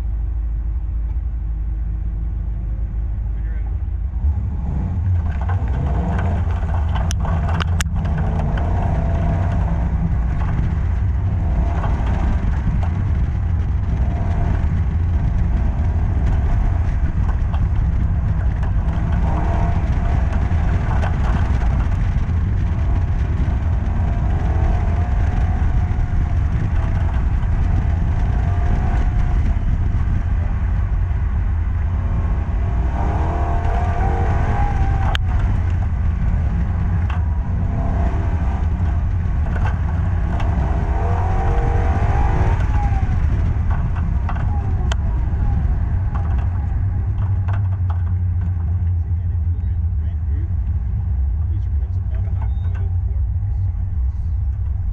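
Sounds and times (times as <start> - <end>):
car engine accelerating and slowing: 0.0 - 54.9
wind and road rumble: 0.0 - 54.9.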